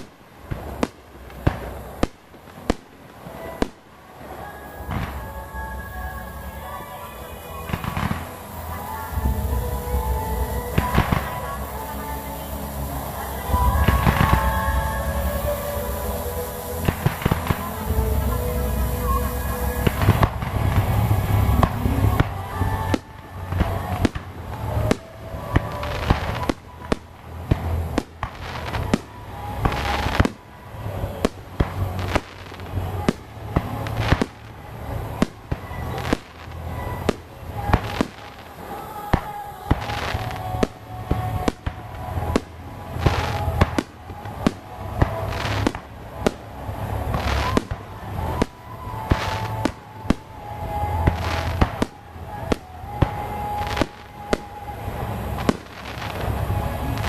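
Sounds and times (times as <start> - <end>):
fireworks bangs with crackle: 0.0 - 57.0.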